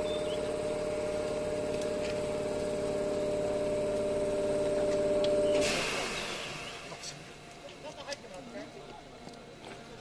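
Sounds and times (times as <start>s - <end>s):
train machinery humming: 0.0s - 10.0s.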